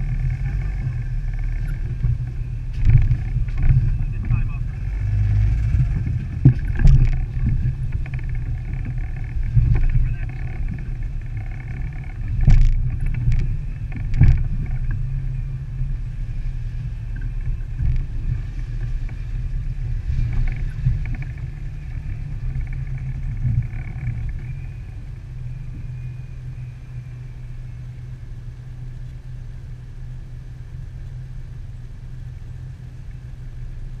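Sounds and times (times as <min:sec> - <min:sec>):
engine rumbling at crawling speed: 0:00.0 - 0:34.0.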